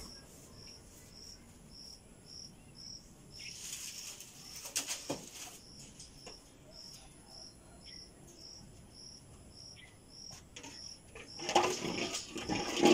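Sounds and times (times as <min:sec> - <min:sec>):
faint insect chirping: 0:00.0 - 0:11.4.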